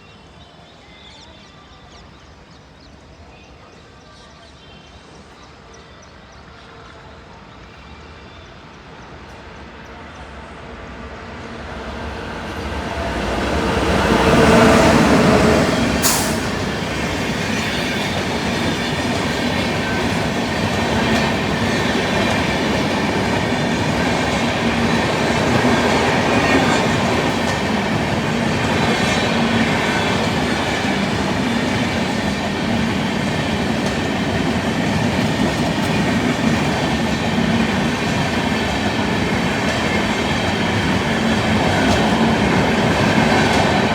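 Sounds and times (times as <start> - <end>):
train passing close by: 0.0 - 43.9
train wheels on rails: 7.6 - 43.9.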